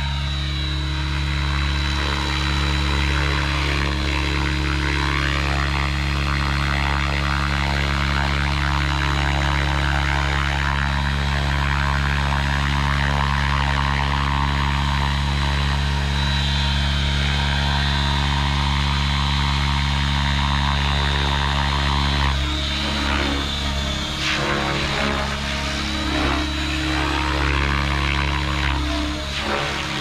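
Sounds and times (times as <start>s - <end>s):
helicopter rotor drone: 0.0s - 30.0s
high thin whine: 0.0s - 30.0s.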